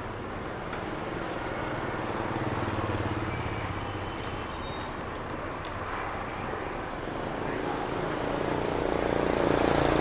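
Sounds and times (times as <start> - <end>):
traffic noise: 0.0 - 10.0.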